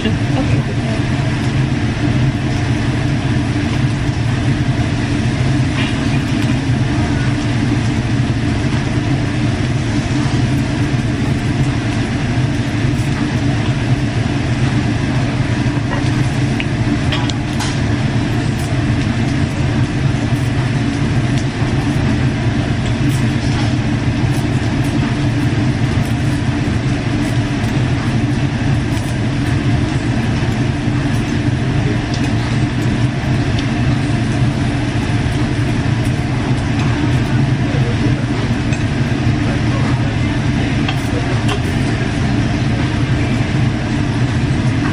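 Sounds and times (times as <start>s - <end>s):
exhaust fan droning: 0.0s - 44.9s.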